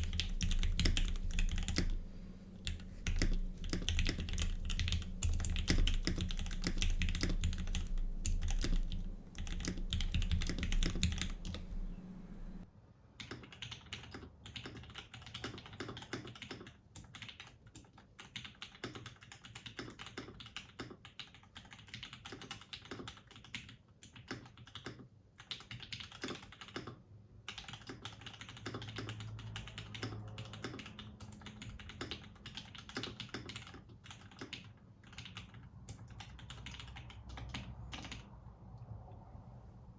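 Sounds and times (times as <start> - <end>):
mechanical keyboard typing: 0.0 - 2.0, 2.6 - 12.0, 12.6 - 38.4.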